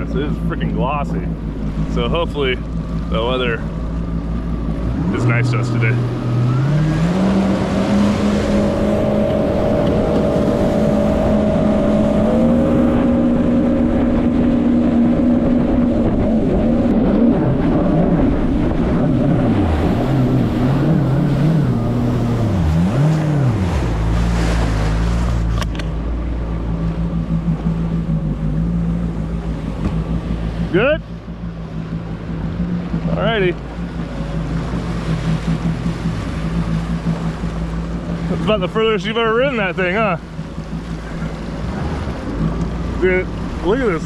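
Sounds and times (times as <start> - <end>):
jet ski engine accelerating: 0.0 - 44.0
water and wind rush: 0.0 - 44.0.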